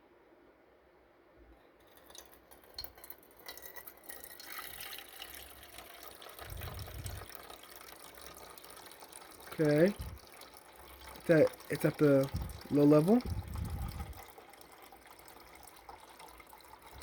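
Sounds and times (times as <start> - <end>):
water pouring into a mug: 1.8 - 17.0.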